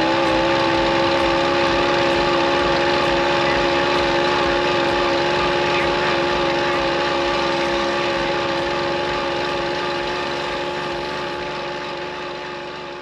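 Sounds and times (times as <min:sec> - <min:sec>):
moped engine buzzing: 0:00.0 - 0:13.0.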